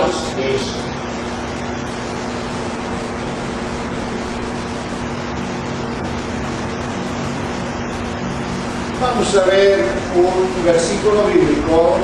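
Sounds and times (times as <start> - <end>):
low even hum: 0.0 - 12.0
steady hiss: 0.0 - 12.0.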